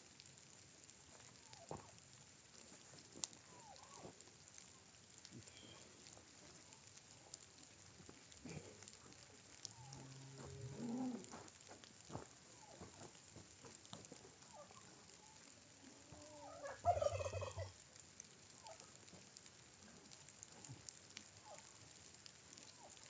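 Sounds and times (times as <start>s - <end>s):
light rain hissing: 0.0s - 23.0s
rain drips and clicks: 0.0s - 23.0s.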